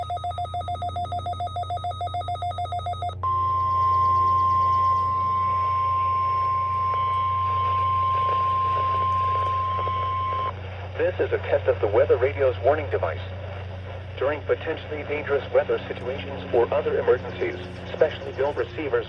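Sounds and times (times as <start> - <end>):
low hum: 0.0 - 19.0
rapid pulsing electronic beeps: 0.0 - 19.0
steady warning alarm tone: 0.0 - 19.0.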